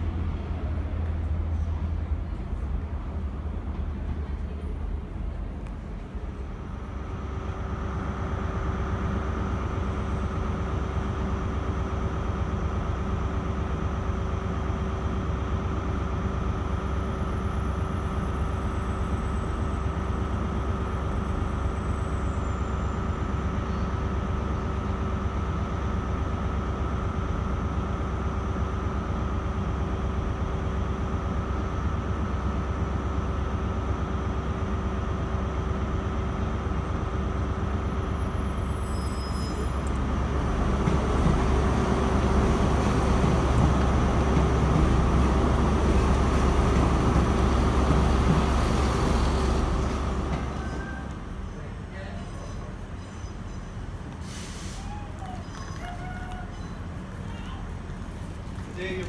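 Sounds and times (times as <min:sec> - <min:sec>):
diesel train engine rumble: 0:00.0 - 0:59.0.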